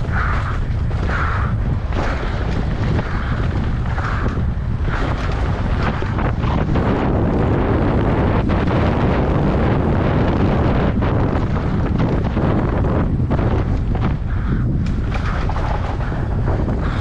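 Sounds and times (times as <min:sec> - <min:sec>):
tyres over loose dirt and stones: 0:00.0 - 0:17.0
wind buffeting microphone: 0:00.0 - 0:17.0.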